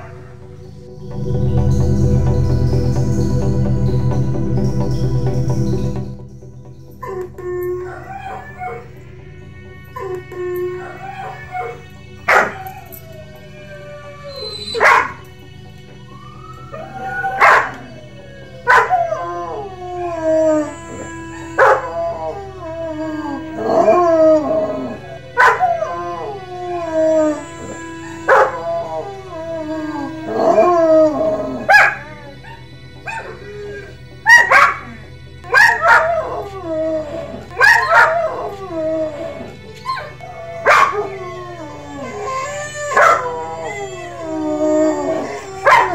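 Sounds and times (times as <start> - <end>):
dog yelping and howling: 0.0 - 0.6, 7.0 - 9.0, 9.9 - 15.3, 16.1 - 45.9.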